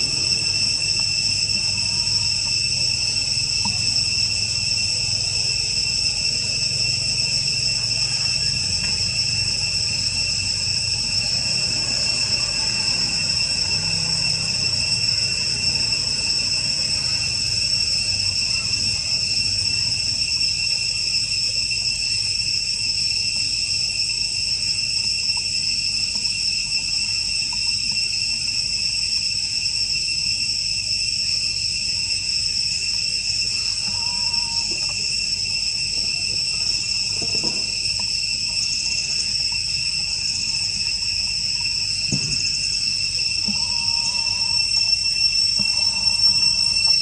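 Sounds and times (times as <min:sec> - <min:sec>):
insects chorus shrill drone: 0:00.0 - 0:47.0.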